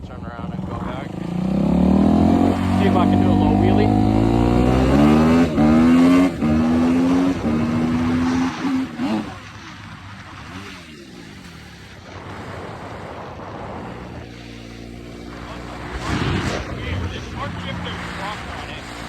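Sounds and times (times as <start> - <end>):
dirt bike engine accelerating: 0.0 - 19.0.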